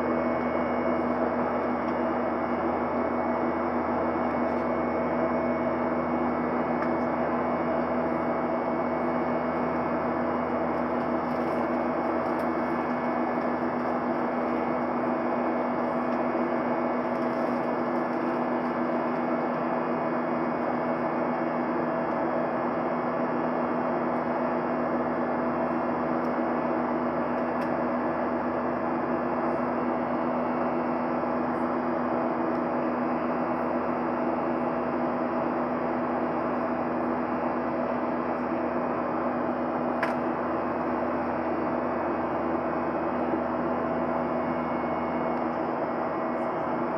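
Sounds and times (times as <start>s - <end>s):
airplane engine hum: 0.0s - 46.9s.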